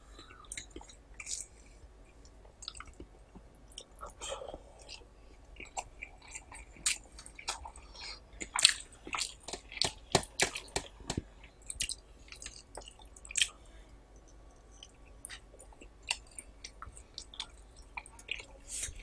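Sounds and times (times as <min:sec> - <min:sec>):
wet chewing and lip smacks: 0:02.2 - 0:13.6, 0:14.2 - 0:19.0.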